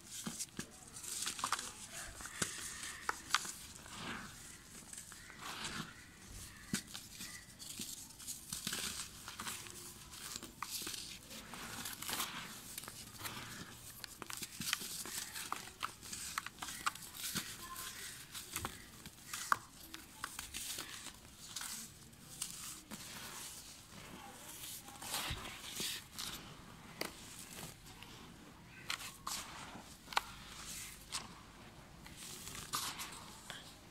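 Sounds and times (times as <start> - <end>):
hands crumbling dry dirt: 0.0 - 33.9
soil sifting: 0.1 - 33.9.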